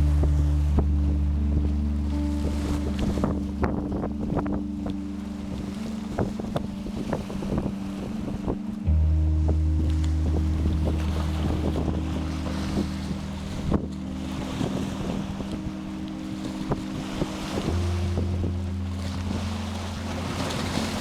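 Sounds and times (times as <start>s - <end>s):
slow background music: 0.0s - 21.0s
waves washing on shore: 0.0s - 21.0s
wind buffeting microphone: 0.0s - 21.0s.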